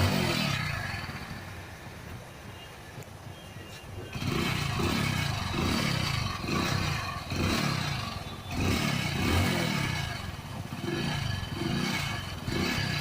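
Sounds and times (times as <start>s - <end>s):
motorcycle engine revving: 0.0s - 1.6s, 4.1s - 13.0s.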